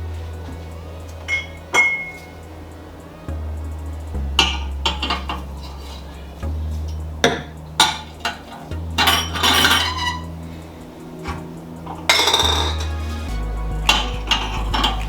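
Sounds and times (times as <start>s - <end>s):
music bassline: 0.0s - 15.0s.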